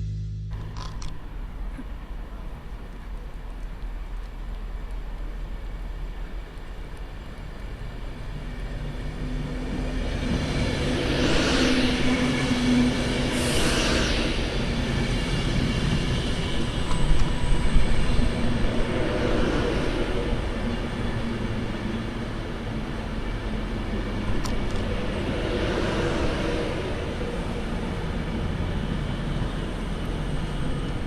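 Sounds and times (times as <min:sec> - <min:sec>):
train rumbling on rails: 0:00.5 - 0:31.0.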